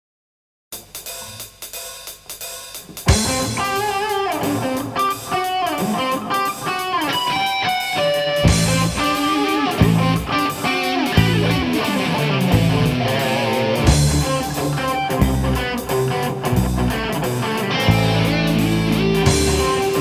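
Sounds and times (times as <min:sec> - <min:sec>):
rock band playing: 0:02.8 - 0:20.0.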